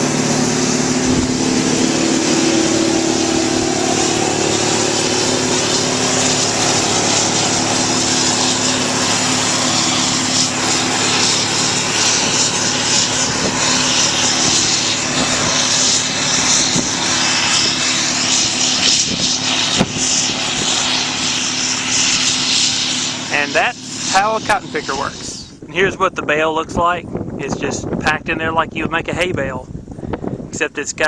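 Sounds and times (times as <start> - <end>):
cotton picker engine drone: 0.0 - 31.0.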